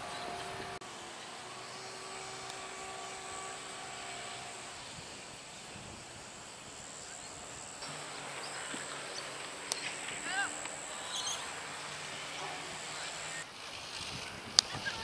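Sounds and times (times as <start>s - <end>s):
background hiss: 0.0s - 15.0s
distant engine drone: 0.0s - 15.0s.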